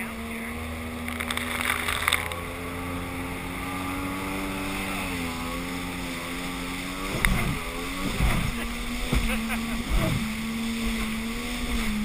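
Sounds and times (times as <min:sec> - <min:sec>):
watercraft engine running: 0:00.0 - 0:12.0.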